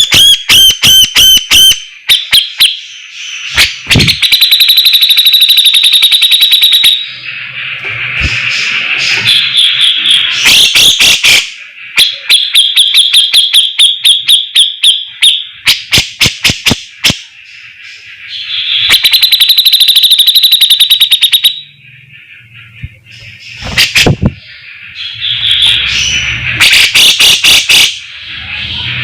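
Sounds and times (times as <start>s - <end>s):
bird singing harsh rattling notes: 0.0s - 29.0s.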